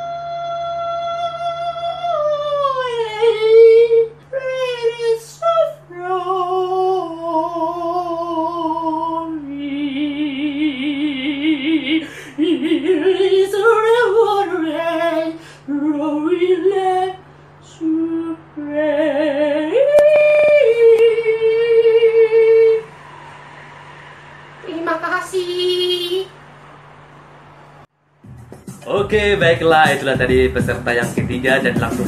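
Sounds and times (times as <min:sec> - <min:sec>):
person singing with vibrato: 0:00.0 - 0:26.4.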